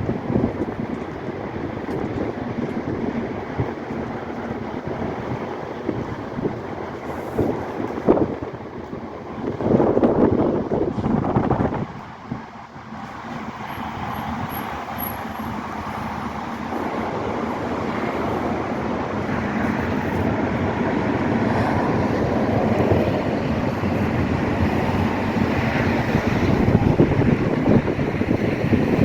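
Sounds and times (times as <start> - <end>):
moving vehicle rumble: 0.0 - 29.0.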